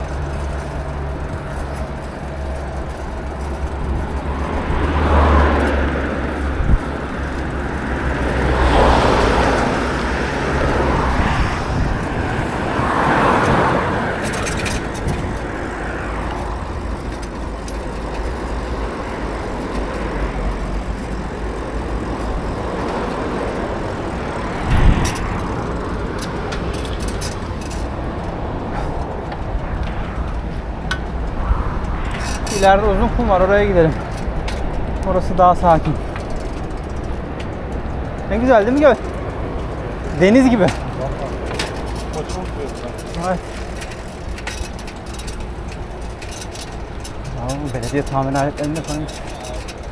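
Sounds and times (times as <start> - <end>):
vehicles passing: 0.0 - 49.9
wind and road noise: 0.0 - 49.9.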